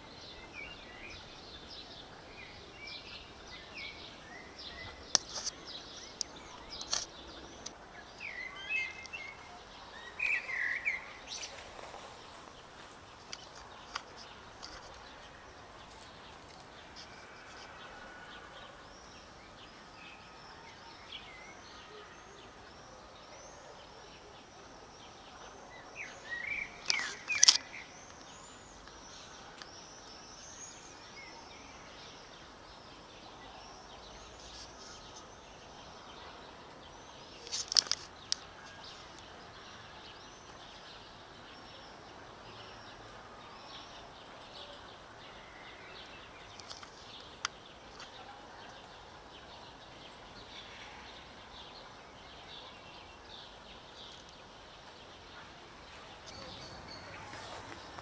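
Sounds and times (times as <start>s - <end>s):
small birds chirping: 0.0s - 58.0s
steady background hiss: 0.0s - 58.0s.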